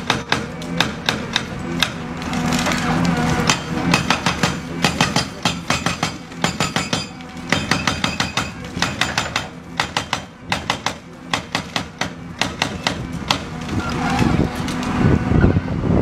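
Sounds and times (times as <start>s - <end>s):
hydraulic breaker hammering concrete: 0.0s - 2.1s, 2.9s - 14.7s.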